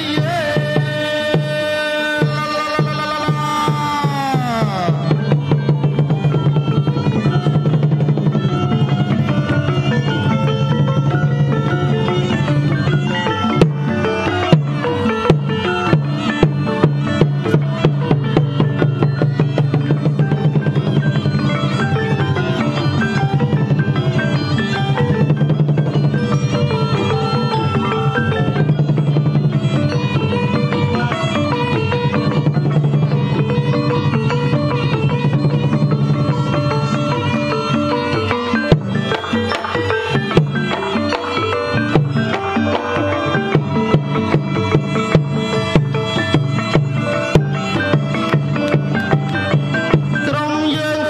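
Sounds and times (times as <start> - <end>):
drum strokes and roll: 0.0 - 51.0
reedy oboe: 0.0 - 51.0
xylophones and gong circles: 0.0 - 51.0.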